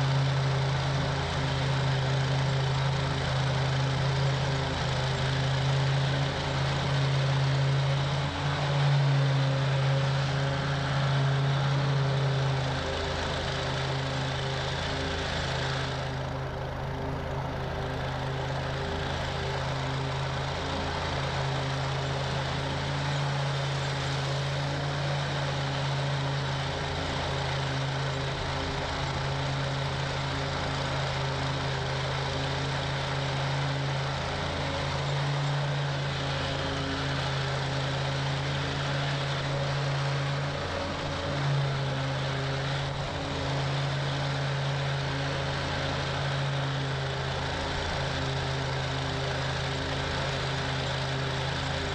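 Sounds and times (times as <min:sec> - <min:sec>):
mower engine drone: 0:00.0 - 0:51.9.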